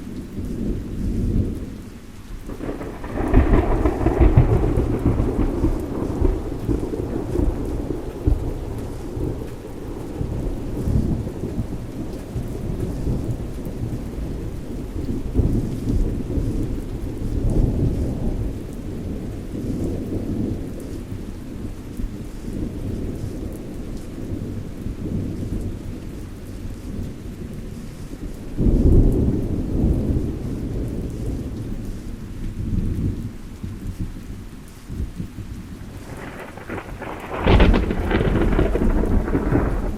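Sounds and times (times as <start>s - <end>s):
steady rain: 0.0s - 39.9s
thunder rumbling: 2.5s - 33.8s, 35.0s - 39.9s.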